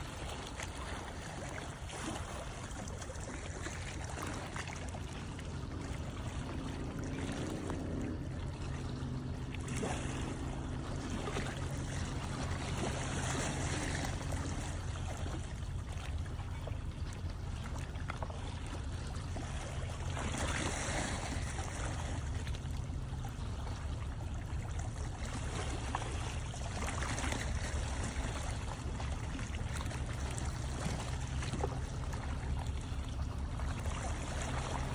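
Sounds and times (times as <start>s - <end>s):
boat engine drone: 0.0s - 34.9s
water lapping against shore: 0.0s - 34.9s.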